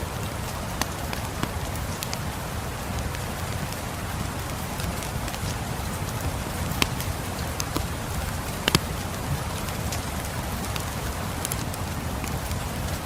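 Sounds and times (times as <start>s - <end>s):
steady rain: 0.0s - 13.0s
wood fire crackling and popping: 0.0s - 13.0s.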